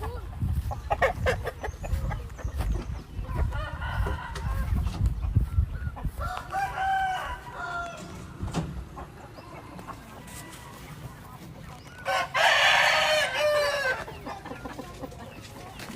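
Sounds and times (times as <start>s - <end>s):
roosters clucking: 0.0s - 15.9s
roosters crowing: 0.5s - 15.8s.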